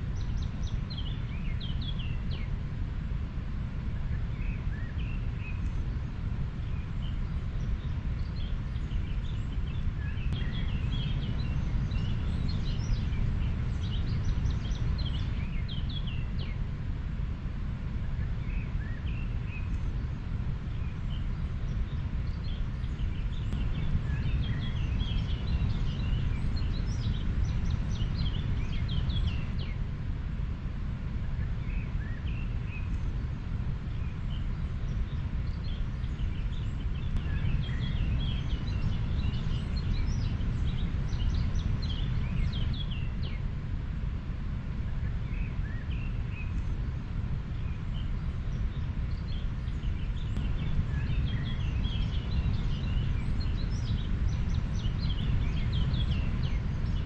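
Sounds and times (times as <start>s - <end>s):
small birds chirping: 0.0s - 2.9s, 3.8s - 57.0s.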